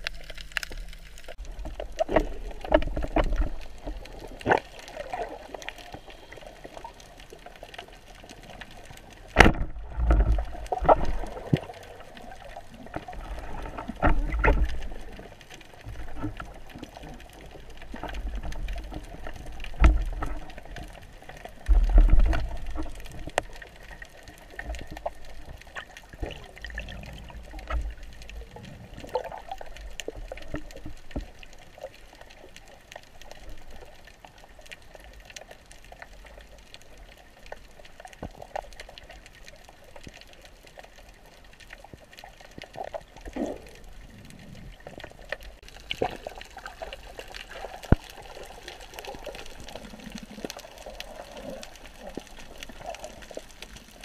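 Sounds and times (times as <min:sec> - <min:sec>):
water sloshing and bubbling: 0:00.0 - 0:54.0.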